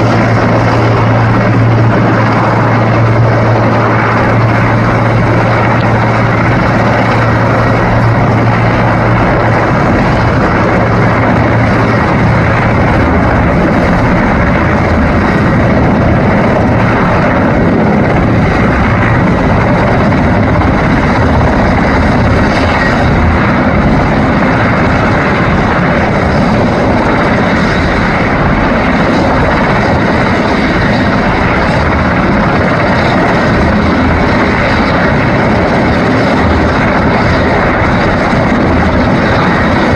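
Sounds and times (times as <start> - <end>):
helicopter engines and rotors: 0.0 - 39.9.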